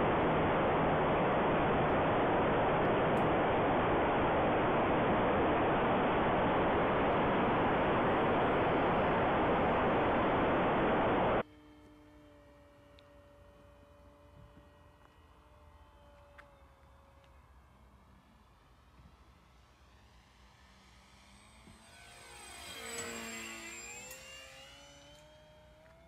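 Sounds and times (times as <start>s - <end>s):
airflow and propeller noise: 0.0s - 26.0s.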